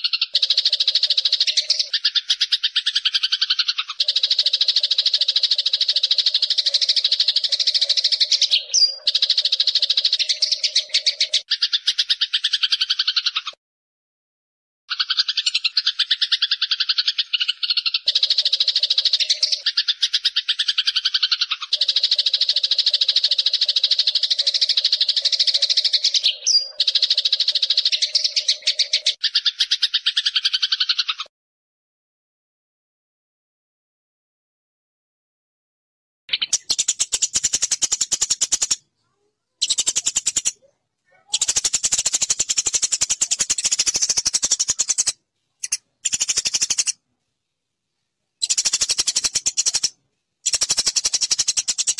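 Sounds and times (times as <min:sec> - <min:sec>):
lower bird chirps: 0:00.0 - 0:13.6, 0:14.9 - 0:31.3, 0:36.3 - 0:47.0, 0:48.4 - 0:51.9
sparrow chattering: 0:00.0 - 0:13.6, 0:14.9 - 0:31.3, 0:36.3 - 0:47.0, 0:48.4 - 0:51.9.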